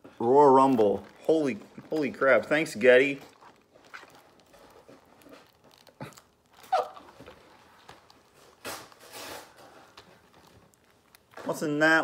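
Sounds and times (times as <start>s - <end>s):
packaging rustling or tearing: 0.1s - 12.0s.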